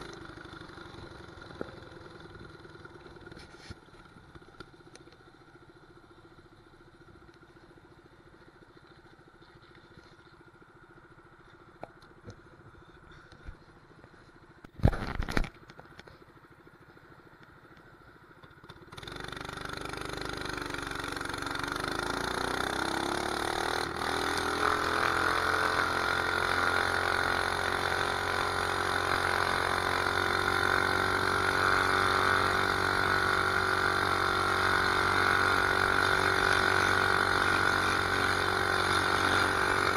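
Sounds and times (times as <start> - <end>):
small motorbike engine: 0.0 - 39.9.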